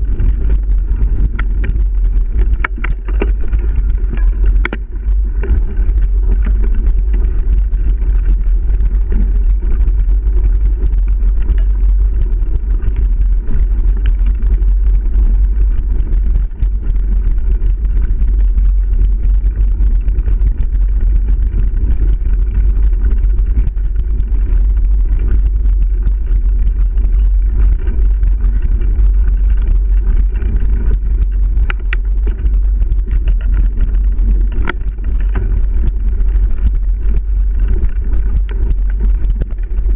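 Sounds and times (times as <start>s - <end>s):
bike rattling over bumps: 0.0s - 39.9s
wind buffeting camera: 0.0s - 39.9s.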